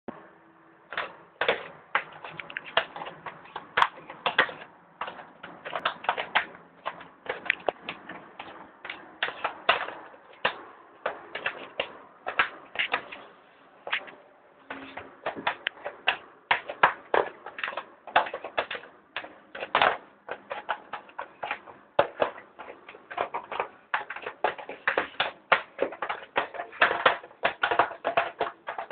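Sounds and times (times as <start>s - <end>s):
laminate floor clicking and cracking: 0.9s - 28.9s.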